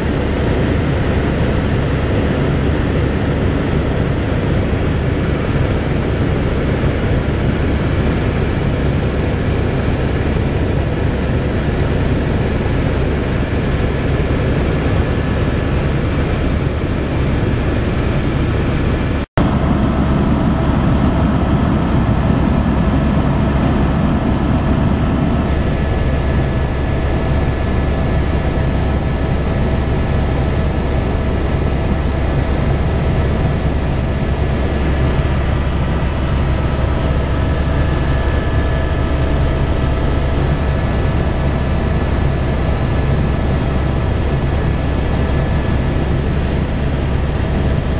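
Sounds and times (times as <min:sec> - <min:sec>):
helicopter rotor and engine: 0:00.0 - 0:47.9
high engine whine: 0:00.0 - 0:47.9.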